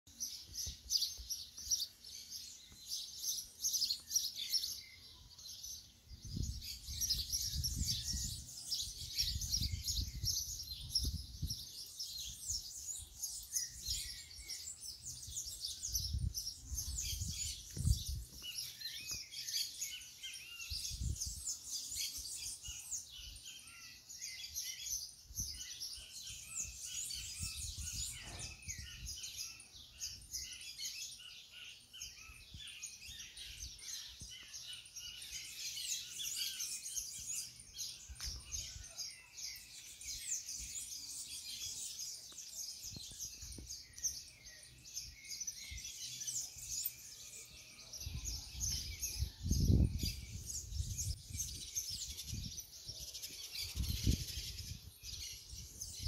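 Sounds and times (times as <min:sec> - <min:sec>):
birds chirping: 0:00.1 - 0:56.0.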